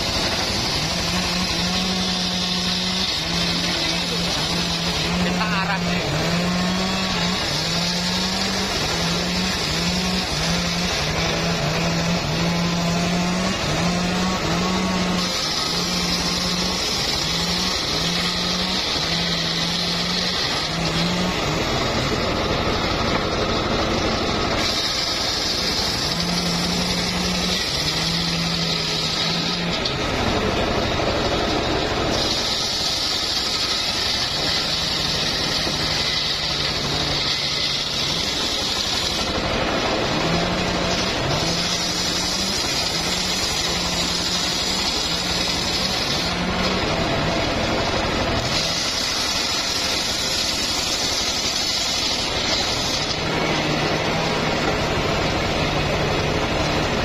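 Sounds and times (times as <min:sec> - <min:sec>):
circular saw cutting log: 0:00.0 - 0:57.0.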